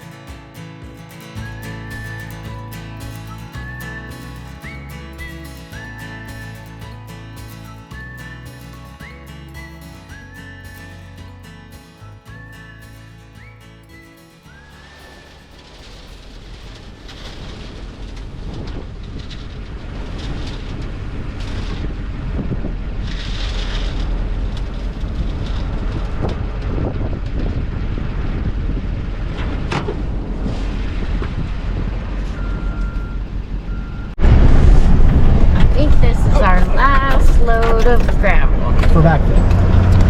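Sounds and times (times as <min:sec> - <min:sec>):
heavy engine rumble: 0:00.0 - 0:40.0.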